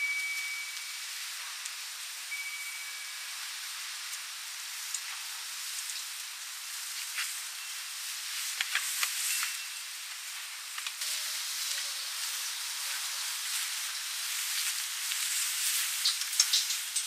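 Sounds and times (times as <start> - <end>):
hot oil sizzling in a wok: 0.0 - 17.0.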